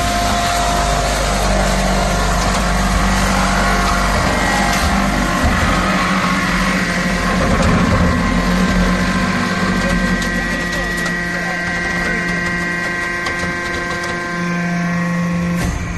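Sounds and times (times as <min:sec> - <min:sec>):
machine hum and whine: 0:00.0 - 0:15.9.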